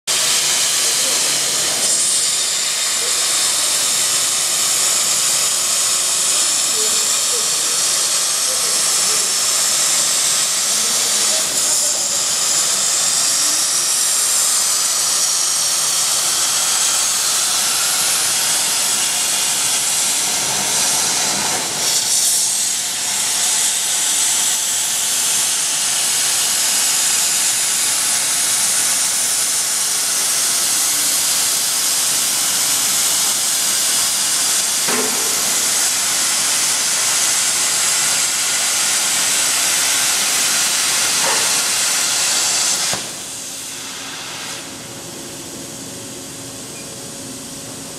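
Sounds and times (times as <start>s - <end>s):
plasma torch hissing: 0.1s - 46.8s.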